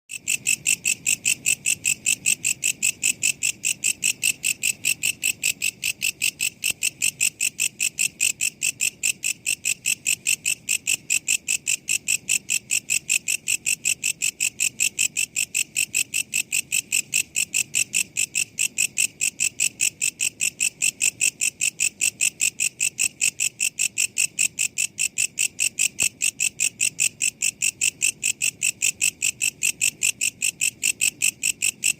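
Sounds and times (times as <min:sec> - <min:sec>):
insect chirping: 0:00.1 - 0:31.9.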